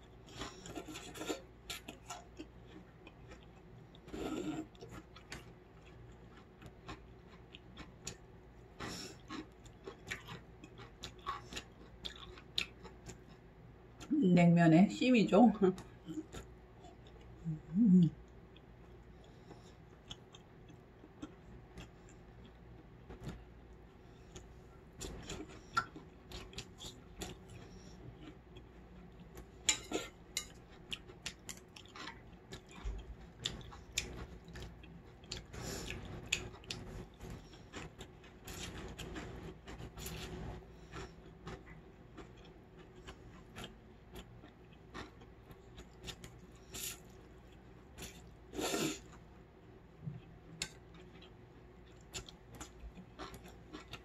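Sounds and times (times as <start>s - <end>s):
chewing: 0.1s - 14.1s, 15.7s - 49.2s, 50.0s - 54.0s.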